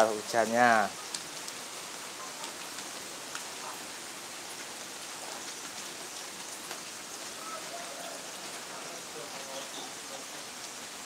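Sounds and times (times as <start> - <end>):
rain hissing on ground: 0.0 - 11.0
raindrops ticking: 0.0 - 11.0.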